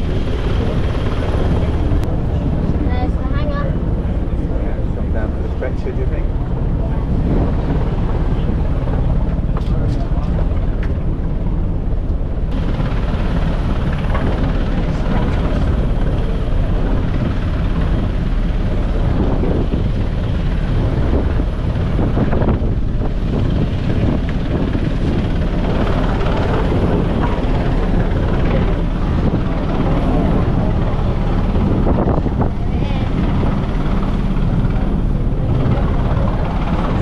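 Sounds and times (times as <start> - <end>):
helicopter rotor and engine thrum: 0.0 - 37.0.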